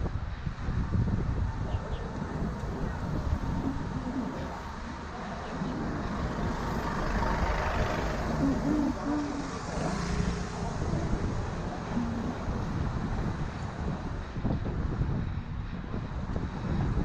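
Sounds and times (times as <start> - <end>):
vehicles passing close by: 0.0 - 17.0.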